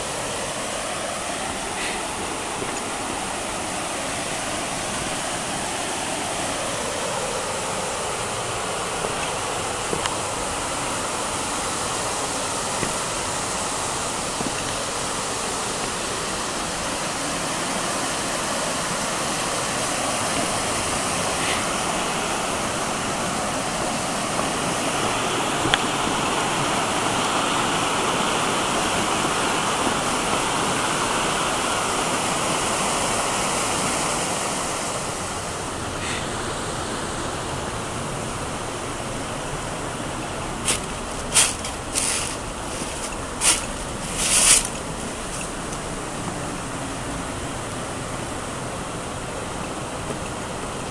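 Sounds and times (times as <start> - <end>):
stream pouring over rocks: 0.0 - 50.9.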